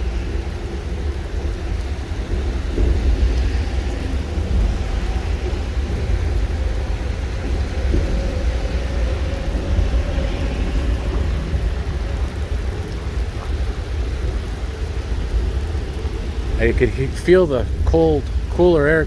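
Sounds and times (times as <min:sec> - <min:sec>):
rain falling: 0:00.0 - 0:19.0
wind buffeting microphone: 0:00.0 - 0:19.0.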